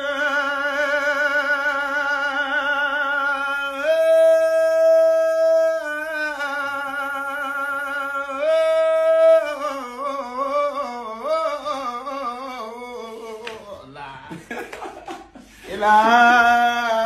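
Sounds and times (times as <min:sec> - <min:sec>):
man singing devotional chant: 0:00.0 - 0:14.6, 0:15.6 - 0:17.0.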